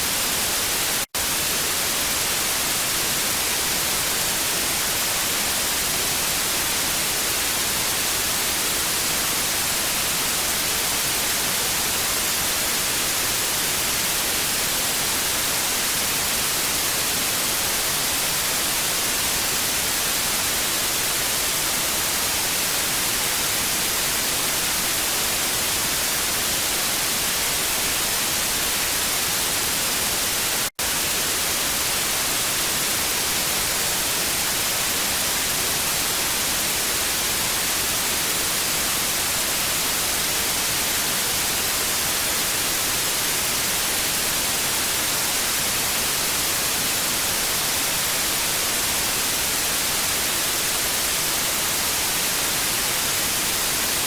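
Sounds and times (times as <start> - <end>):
hissing tv static: 0.0 - 54.0.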